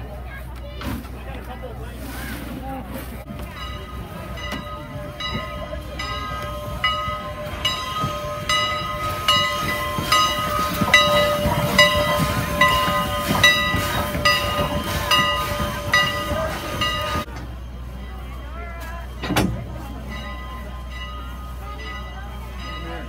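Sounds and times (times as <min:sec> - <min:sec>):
steam locomotive rumble: 0:00.0 - 0:23.0
locomotive bell ringing: 0:03.3 - 0:23.0.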